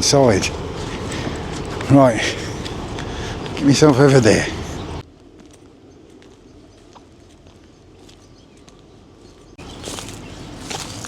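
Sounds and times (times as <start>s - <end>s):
soft footsteps outdoors: 0.0s - 11.0s.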